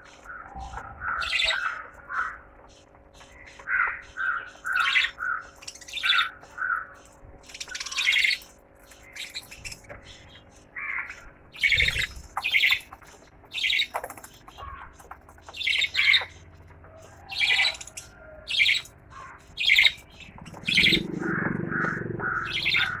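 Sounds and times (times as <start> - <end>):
parrots chattering softly: 0.0 - 23.0
parrots squawking: 0.2 - 23.0.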